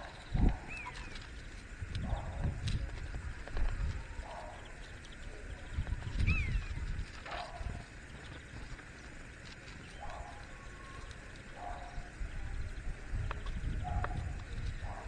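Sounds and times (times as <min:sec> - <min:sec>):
bird chirp: 0:00.0 - 0:01.3, 0:03.9 - 0:15.0.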